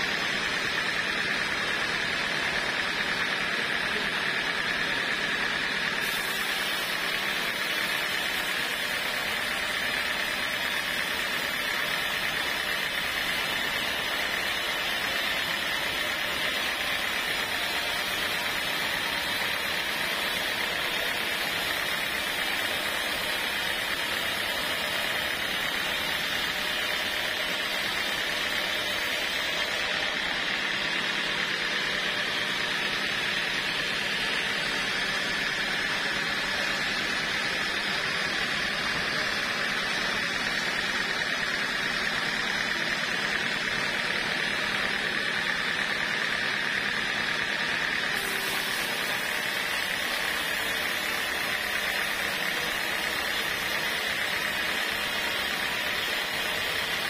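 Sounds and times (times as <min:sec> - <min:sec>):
band saw cutting wood: 0:00.0 - 0:57.0.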